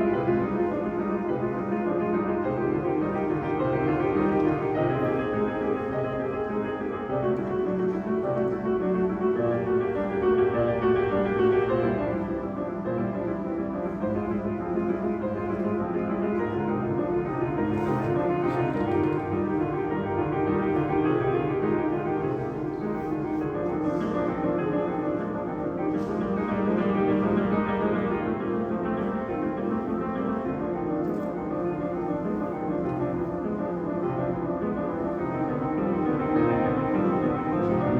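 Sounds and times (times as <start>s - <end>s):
piano trio playing: 0.0s - 37.9s.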